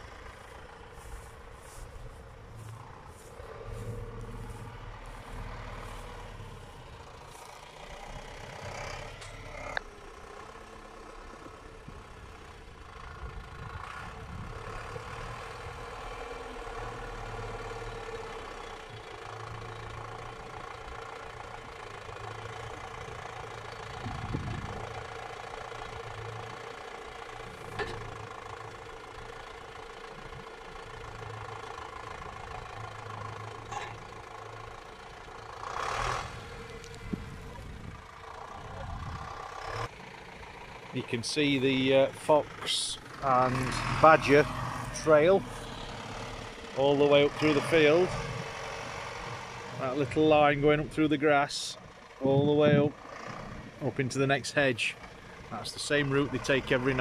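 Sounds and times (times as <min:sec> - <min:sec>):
tractor engine idling: 0:00.0 - 0:57.0.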